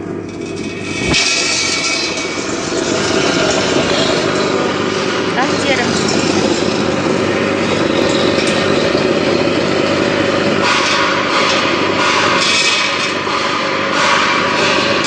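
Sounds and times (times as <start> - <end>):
grinding machine running: 0.0 - 15.0.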